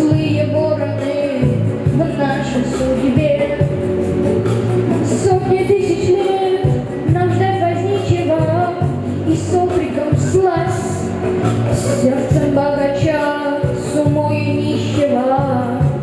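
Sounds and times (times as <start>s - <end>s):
boy singing pop song: 0.0s - 3.9s, 4.8s - 16.0s
pop backing track: 0.0s - 16.0s.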